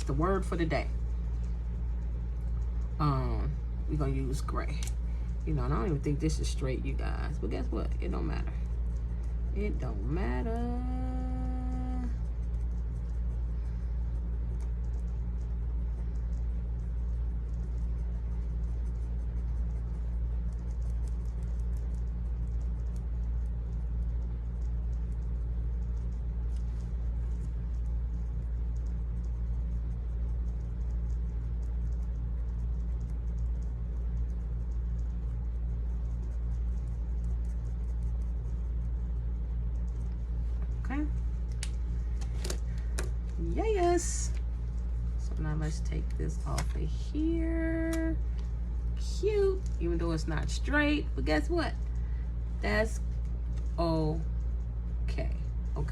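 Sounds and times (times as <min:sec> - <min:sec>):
light scratching and tapping: 0:00.0 - 0:55.9
steady low hum: 0:00.0 - 0:55.9.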